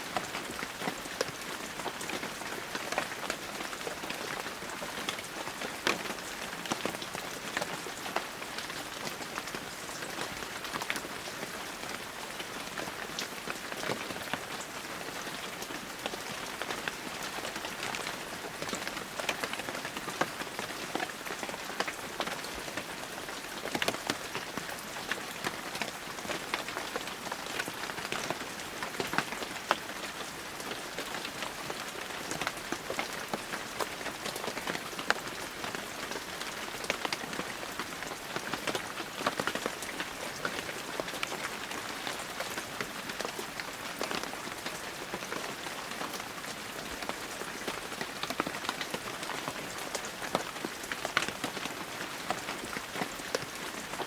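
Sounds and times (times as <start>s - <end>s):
raindrops pattering on surfaces: 0.1s - 54.0s.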